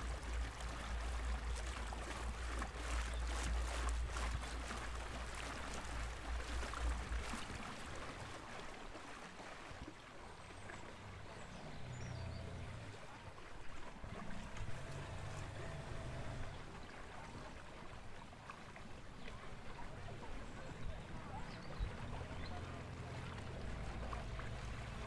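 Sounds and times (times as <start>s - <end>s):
water lapping against metal hull: 0.0s - 25.0s.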